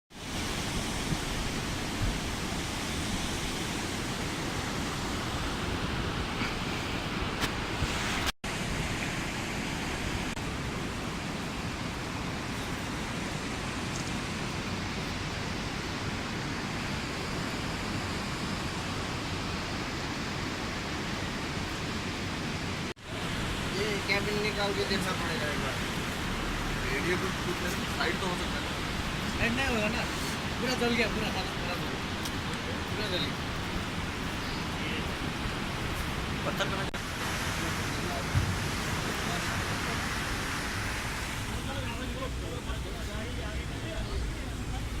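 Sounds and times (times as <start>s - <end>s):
steady rushing noise: 0.1s - 45.0s.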